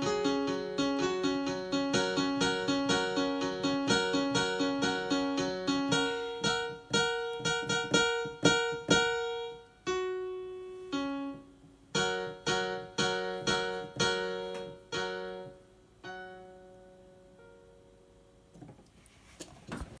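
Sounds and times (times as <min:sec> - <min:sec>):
piano playing chords: 0:00.0 - 0:18.5.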